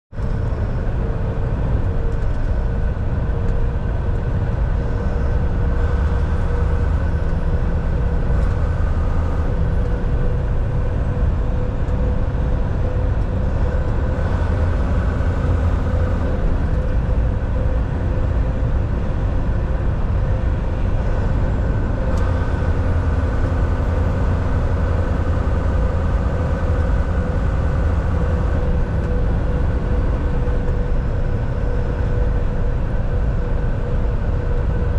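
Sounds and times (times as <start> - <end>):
truck engine and road drone: 0.1 - 34.9.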